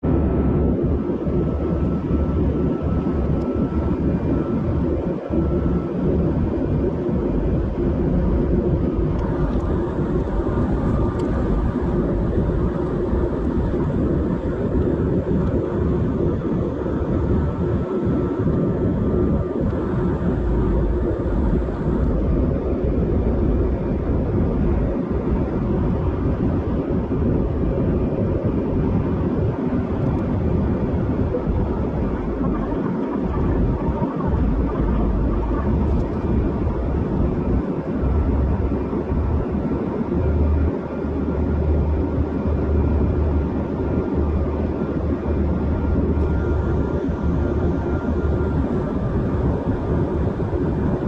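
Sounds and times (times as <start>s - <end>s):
airliner engines and rushing air: 0.0s - 51.0s
faint steady hum: 0.0s - 51.0s.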